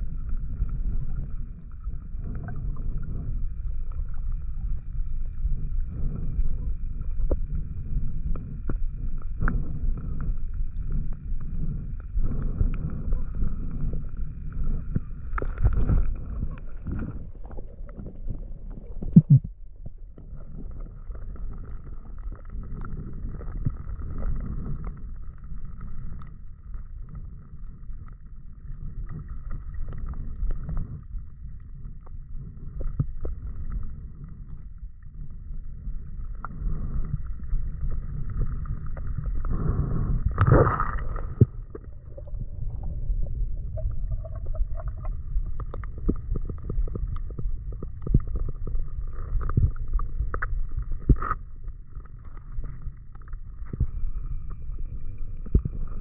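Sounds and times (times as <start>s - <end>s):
underwater rumble of moving water: 0.0s - 56.0s.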